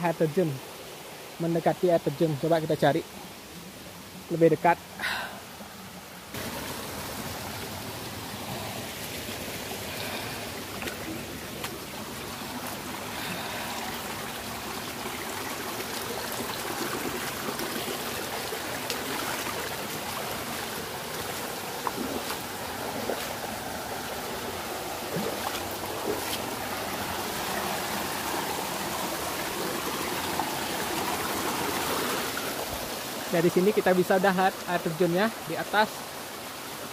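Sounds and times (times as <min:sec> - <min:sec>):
stream rushing over stones: 0:00.0 - 0:36.9.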